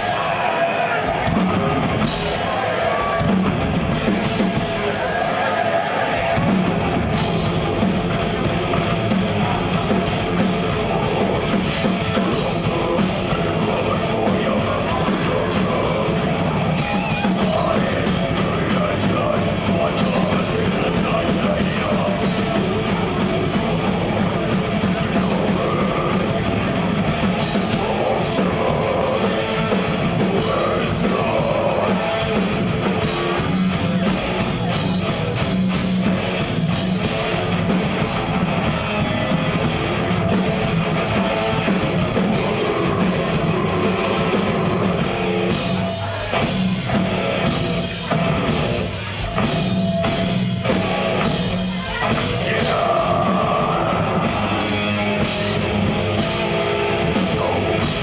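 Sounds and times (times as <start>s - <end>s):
death metal band playing: 0.0s - 58.0s
distorted electric guitars: 0.0s - 58.0s
fast dense drumming: 0.0s - 58.0s.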